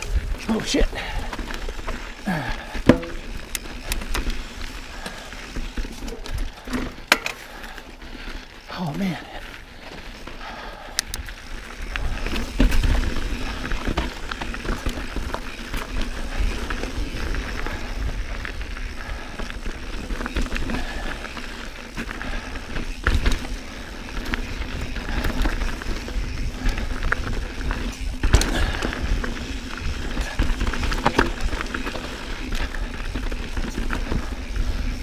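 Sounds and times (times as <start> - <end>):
bike rattling over rocks: 0.0 - 35.0
bike tyre noise on dirt: 0.0 - 35.0.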